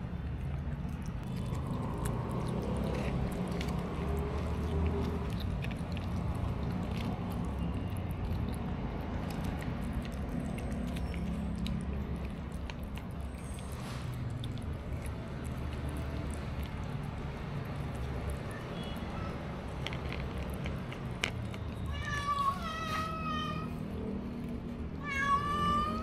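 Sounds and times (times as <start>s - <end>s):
cats chewing and eating: 0.0s - 26.0s.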